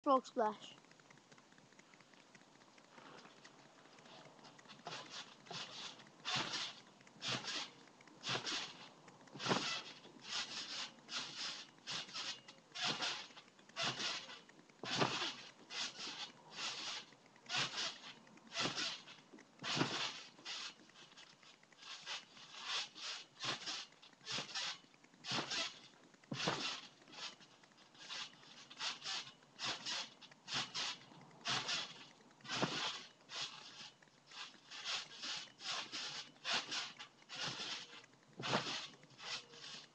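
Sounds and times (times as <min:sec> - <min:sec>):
trampoline springs creaking: 0:00.0 - 0:39.9.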